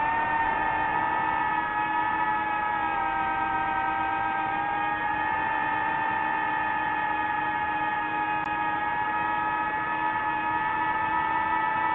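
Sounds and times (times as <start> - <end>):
drone propellers whining: 0.0 - 11.9.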